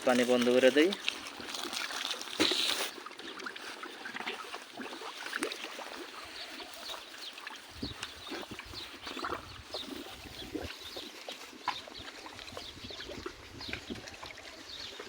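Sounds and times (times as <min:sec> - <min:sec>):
goats chewing: 0:00.0 - 0:15.0
grass rustling: 0:00.0 - 0:15.0.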